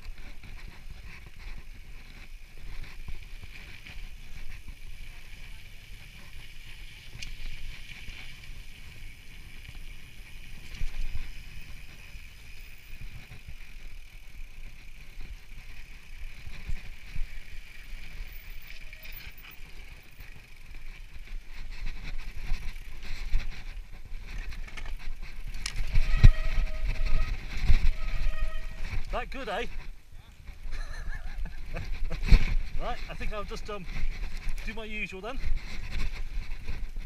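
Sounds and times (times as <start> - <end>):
bike rattling and knocking: 0.0 - 37.0.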